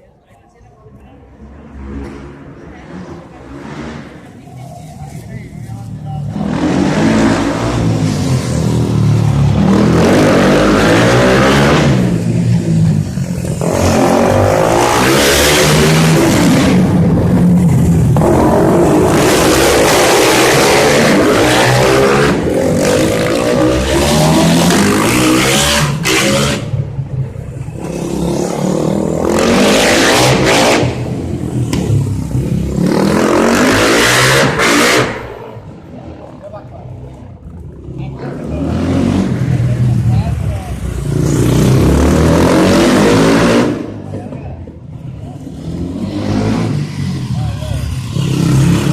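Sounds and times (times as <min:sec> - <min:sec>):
motorcycle engines revving: 0:00.8 - 0:48.9.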